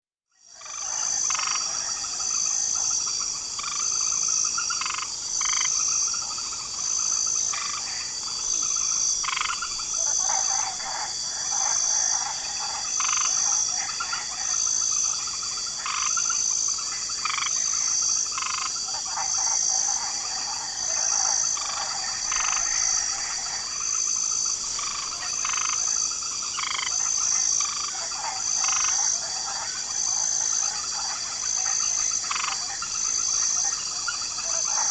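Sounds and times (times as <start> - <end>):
frogs croaking: 0.4 - 34.9
crickets trilling: 0.5 - 34.9.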